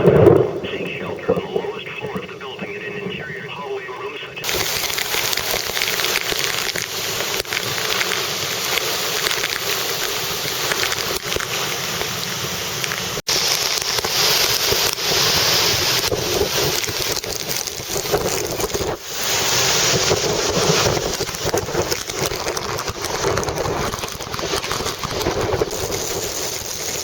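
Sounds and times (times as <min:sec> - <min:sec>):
heavy rain: 0:00.0 - 0:27.0
wind: 0:00.0 - 0:27.0.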